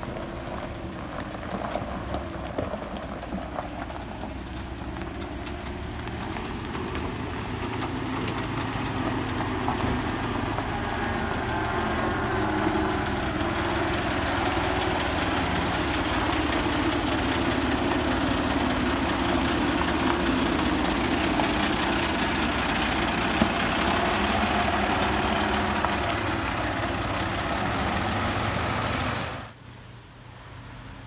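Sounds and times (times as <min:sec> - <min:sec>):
truck diesel engine idling: 0:00.0 - 0:29.6.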